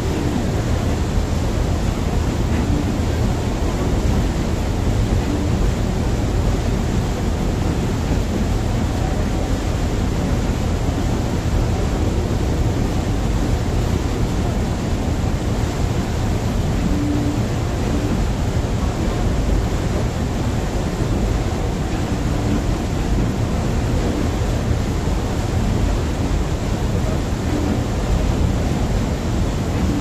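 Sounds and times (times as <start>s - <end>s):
low engine rumble: 0.0s - 30.0s
wake water churning along hull: 0.0s - 30.0s.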